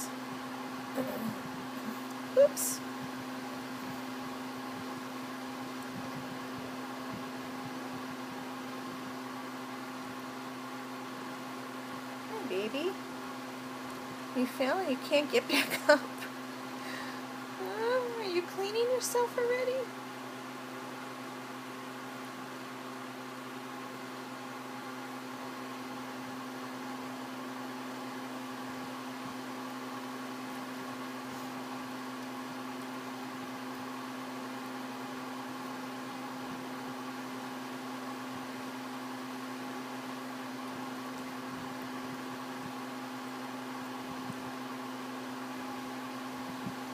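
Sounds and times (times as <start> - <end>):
appliance humming with hiss: 0.0 - 46.9.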